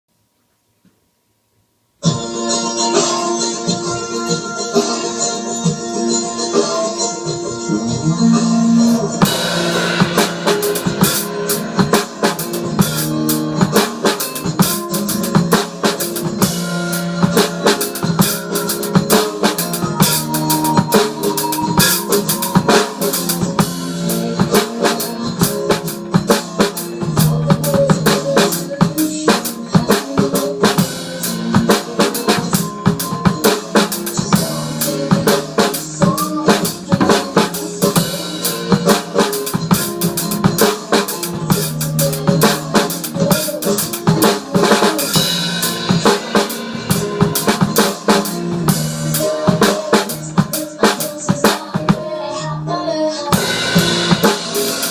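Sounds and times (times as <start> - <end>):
recorded music: 1.9 - 54.9
drum kit playing fast: 2.0 - 54.9.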